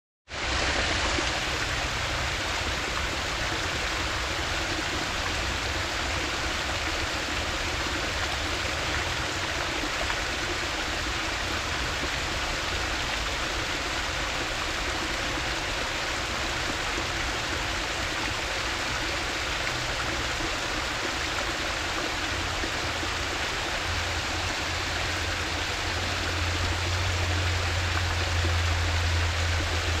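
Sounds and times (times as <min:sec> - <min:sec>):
waterfall splashing rush: 0:00.3 - 0:30.0.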